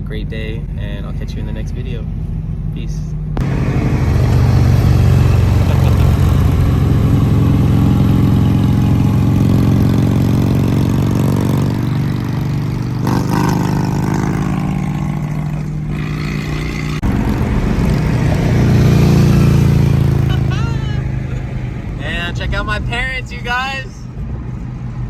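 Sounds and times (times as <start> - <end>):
car engine running loudly: 3.2 - 25.0.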